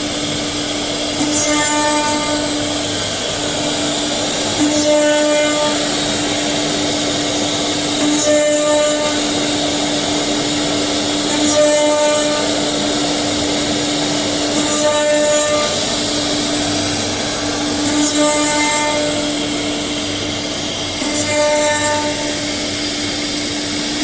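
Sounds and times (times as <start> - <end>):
router spindle hum and cutting hiss: 0.0 - 24.0.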